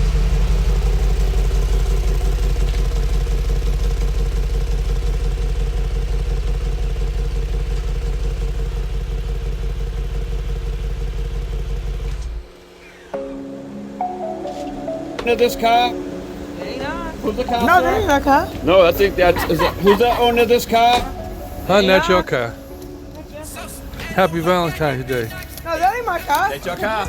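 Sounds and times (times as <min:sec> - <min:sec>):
car engine idling: 0:00.0 - 0:13.0, 0:15.3 - 0:27.0.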